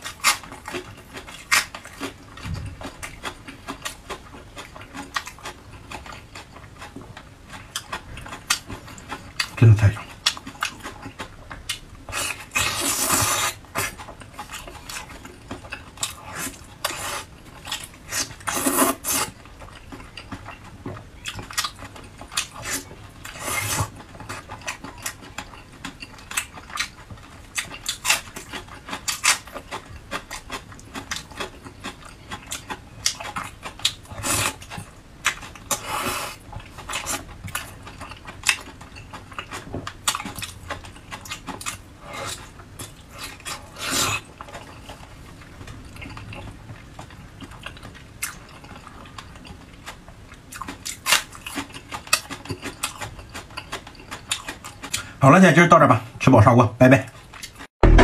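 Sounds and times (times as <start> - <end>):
person chewing wetly: 0.0 - 55.2, 57.1 - 57.7.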